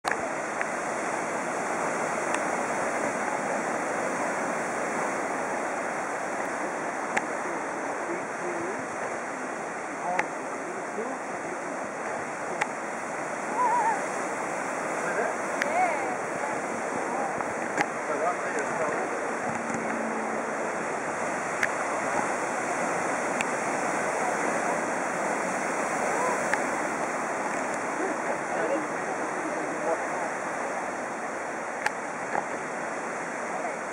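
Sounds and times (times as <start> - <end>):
ocean surf breaking over rocks: 0.1 - 33.9.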